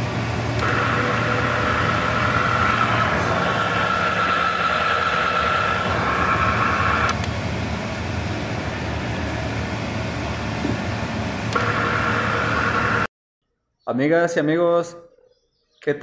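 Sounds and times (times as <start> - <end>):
high whine: 0.0 - 13.1
wheel hub mechanical hum: 0.0 - 13.1.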